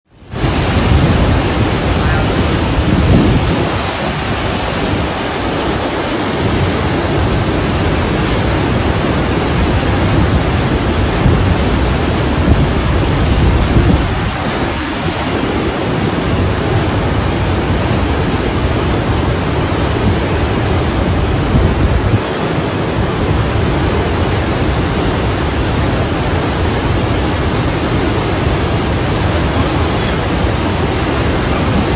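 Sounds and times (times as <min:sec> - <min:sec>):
rushing floodwater in a river: 0:00.1 - 0:31.9.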